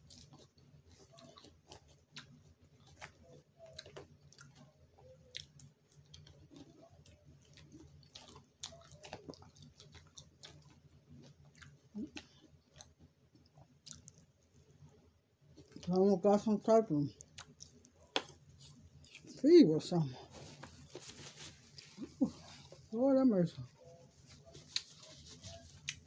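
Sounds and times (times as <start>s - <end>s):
faint chewing: 0.0s - 16.0s, 17.1s - 23.0s, 23.6s - 26.0s.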